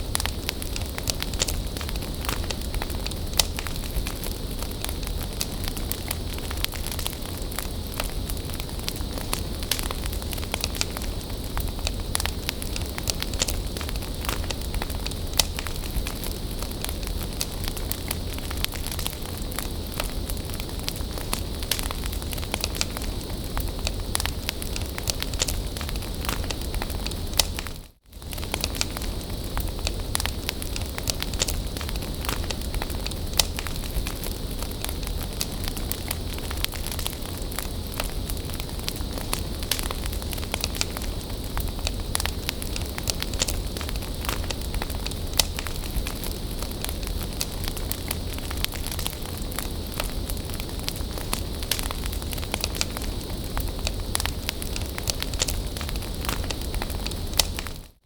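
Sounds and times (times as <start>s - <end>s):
steady hiss: 0.0s - 57.9s
bonfire crackling and popping: 0.0s - 58.0s.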